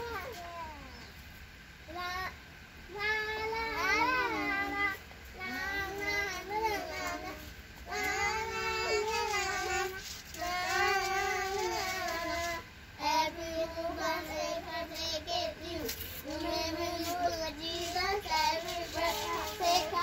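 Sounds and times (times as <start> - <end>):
young child singing: 1.9 - 20.0.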